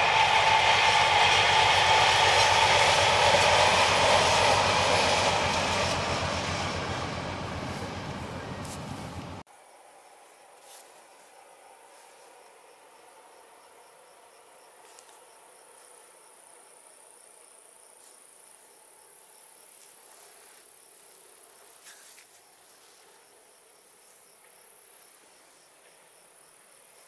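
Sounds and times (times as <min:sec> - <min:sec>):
crickets chirping: 0:00.9 - 0:27.0.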